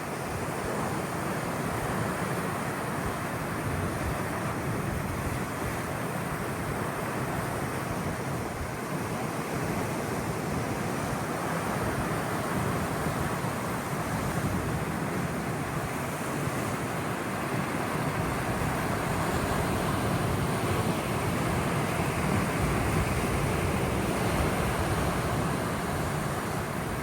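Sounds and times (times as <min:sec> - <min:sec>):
sea waves rushing: 0:00.0 - 0:27.0.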